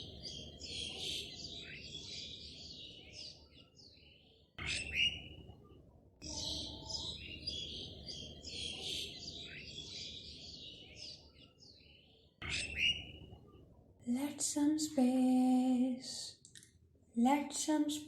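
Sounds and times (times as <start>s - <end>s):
small birds chirping and twittering: 0.0s - 14.9s.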